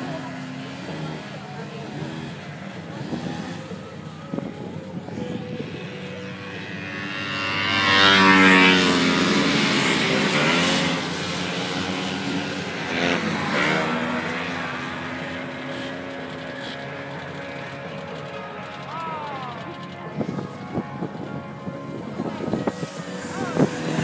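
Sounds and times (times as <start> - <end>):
snowmobiles passing by: 0.0 - 24.0.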